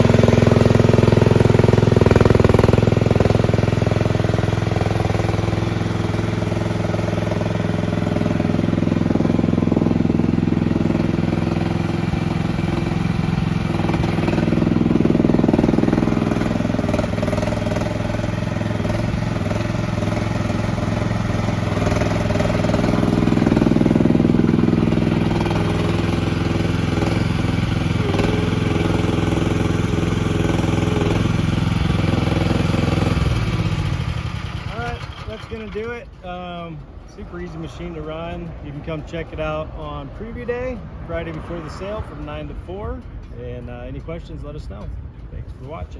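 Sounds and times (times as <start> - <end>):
excavator engine running: 0.0 - 45.9.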